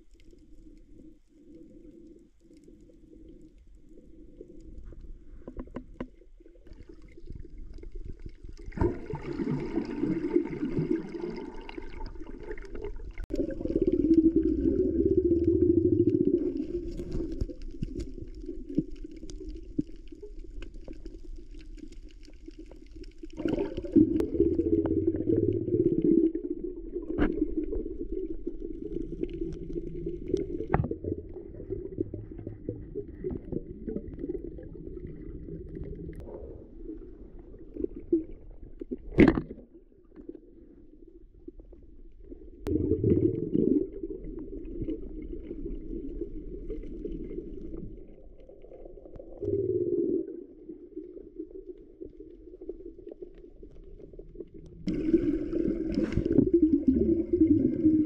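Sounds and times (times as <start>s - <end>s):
muffled gurgling water: 0.0s - 58.0s.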